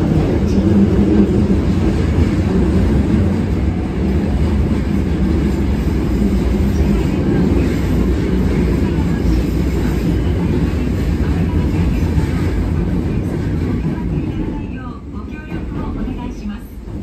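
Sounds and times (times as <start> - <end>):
subway car wheels rumbling: 0.0 - 17.0.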